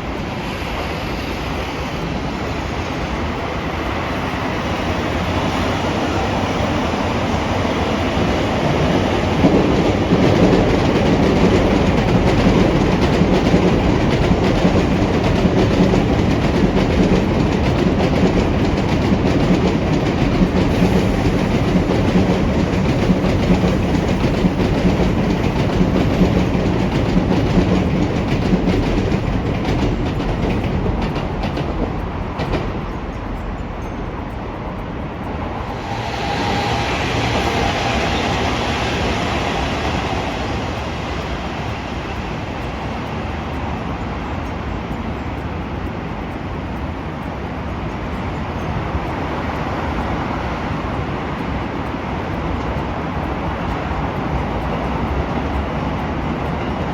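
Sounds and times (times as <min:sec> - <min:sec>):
train wheels clattering over rails: 0:00.0 - 0:56.9.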